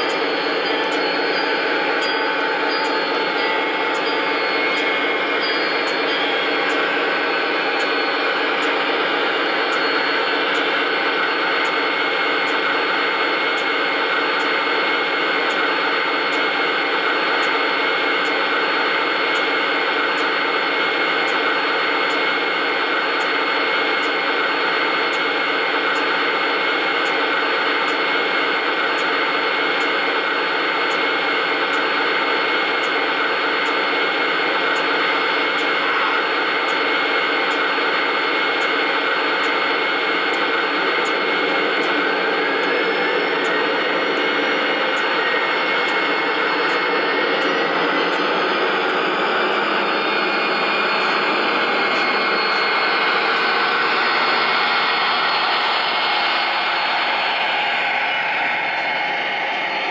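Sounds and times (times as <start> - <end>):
model train running: 0.0 - 59.9.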